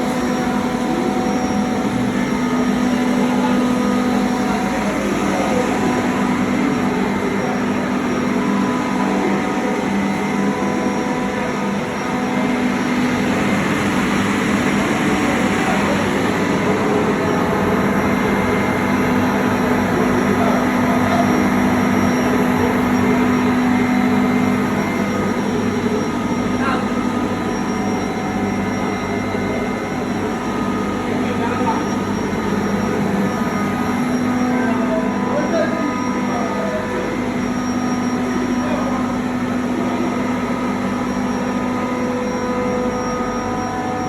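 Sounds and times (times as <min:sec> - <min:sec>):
screw compressor machine drone: 0:00.0 - 0:44.0.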